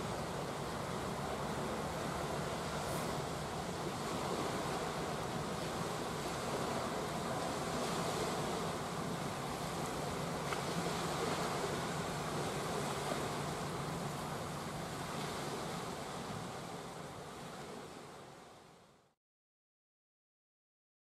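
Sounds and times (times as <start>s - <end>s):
small waves lapping on pebbles: 0.0s - 18.4s.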